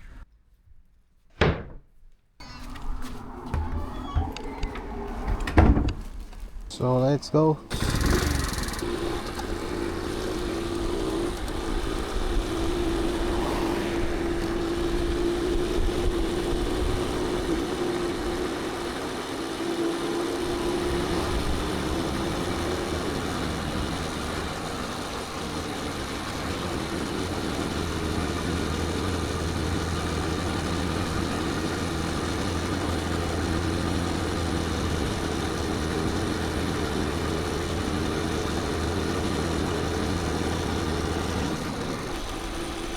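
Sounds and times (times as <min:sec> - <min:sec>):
motorbike engine running: 0:02.4 - 0:42.9.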